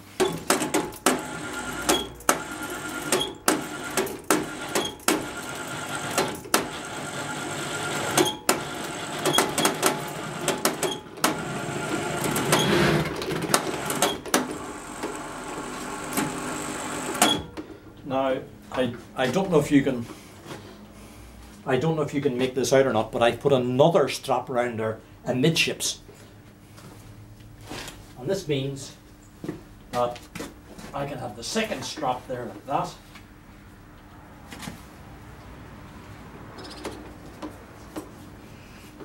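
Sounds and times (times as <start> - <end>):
steady mechanical hum: 0.0 - 39.0.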